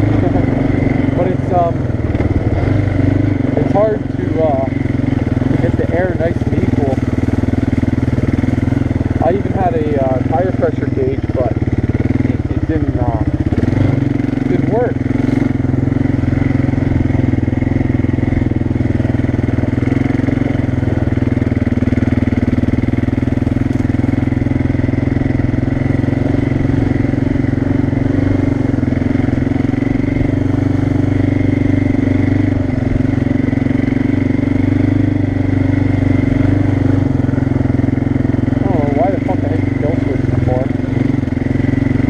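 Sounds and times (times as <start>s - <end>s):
quad engine running: 0.0s - 42.0s.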